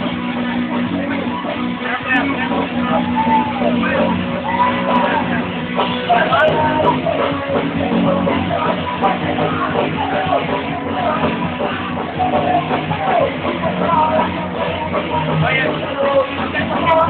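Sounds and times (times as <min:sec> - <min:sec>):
band playing rock music: 0:00.0 - 0:17.0
person singing: 0:00.0 - 0:17.0
steady bass line: 0:00.0 - 0:17.0.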